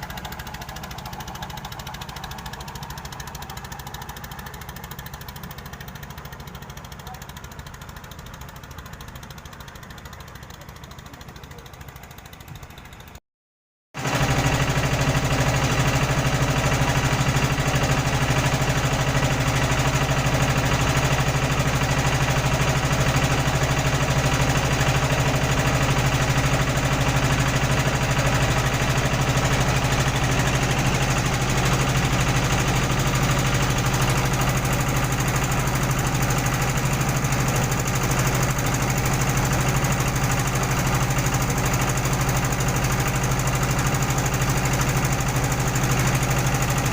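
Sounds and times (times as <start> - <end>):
engine running loud and steady: 0.0 - 13.2, 14.0 - 46.9.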